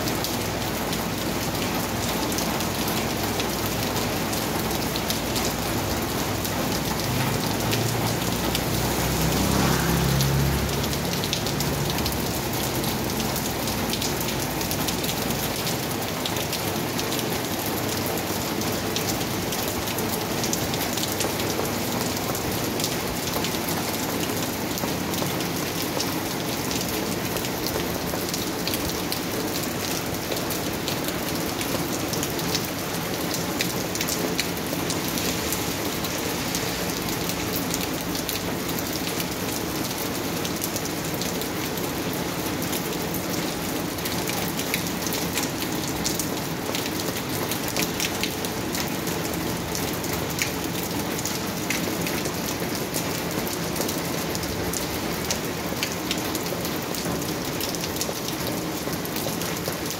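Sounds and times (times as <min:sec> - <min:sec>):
heavy rain on pavement: 0:00.0 - 0:59.9
rain splashing into puddles: 0:00.0 - 0:59.9.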